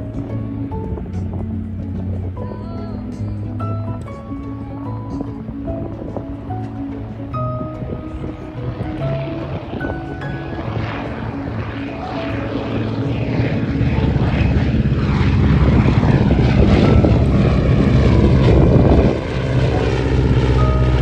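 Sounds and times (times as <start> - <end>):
propeller aircraft flying past: 0.0 - 21.0.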